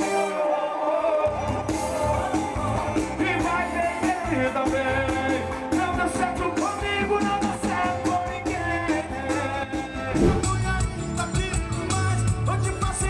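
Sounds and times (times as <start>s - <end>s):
male singer with live band: 0.0s - 13.0s.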